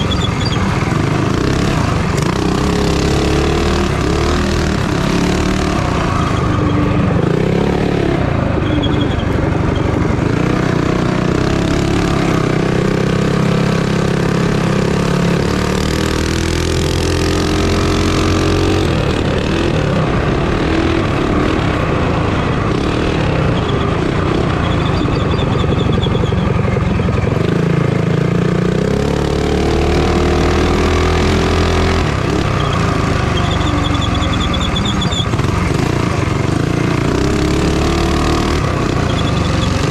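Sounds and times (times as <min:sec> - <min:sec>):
minibike engines racing: 0:00.0 - 0:39.9.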